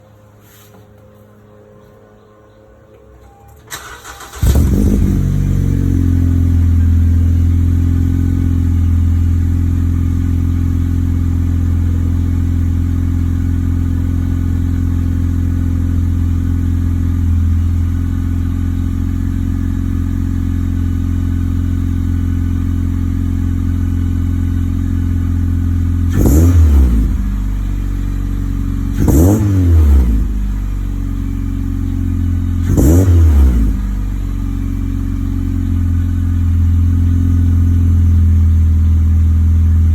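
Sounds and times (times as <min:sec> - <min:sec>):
car engine starting and idling: 0:03.2 - 0:39.9
engine throttle blips: 0:03.2 - 0:39.9.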